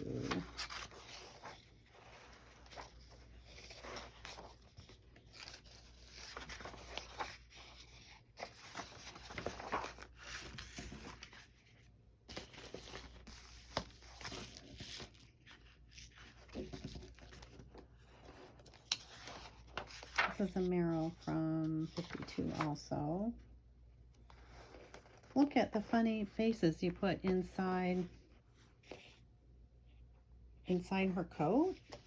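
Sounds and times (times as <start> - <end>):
paper rustling and crinkling: 0.0 - 23.4, 24.2 - 29.2.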